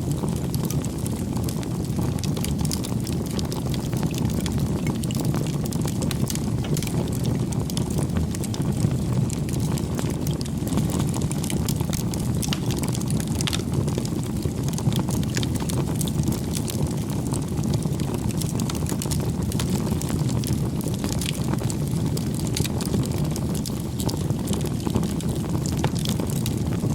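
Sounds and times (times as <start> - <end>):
burning wood crackling and popping: 0.0 - 26.9
low rumble of flame: 0.0 - 26.9.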